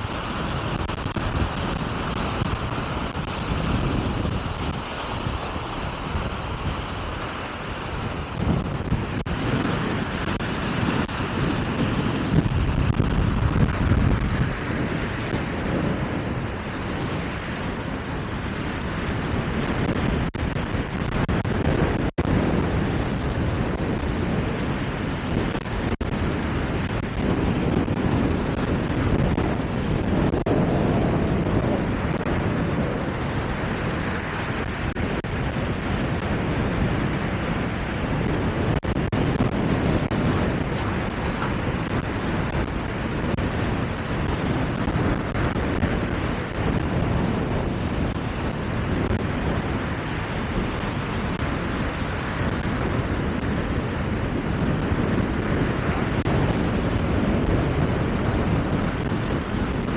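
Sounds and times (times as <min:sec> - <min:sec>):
sea waves rushing: 0:00.0 - 0:59.9
wind buffeting microphone: 0:00.0 - 0:59.9.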